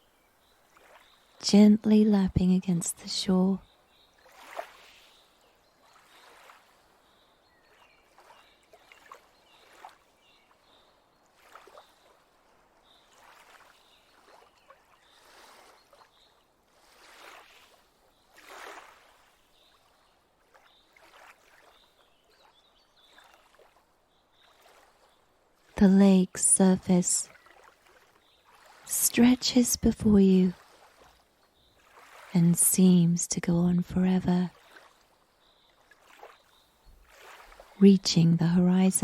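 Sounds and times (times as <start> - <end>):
water lapping against shore: 0.4 - 39.0.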